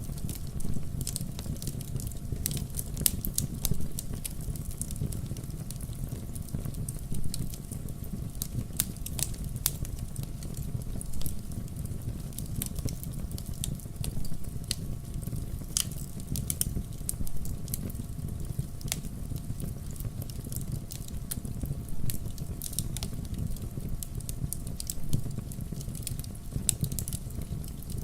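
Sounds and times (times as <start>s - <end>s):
wood fire crackling in a fireplace: 0.0s - 28.0s.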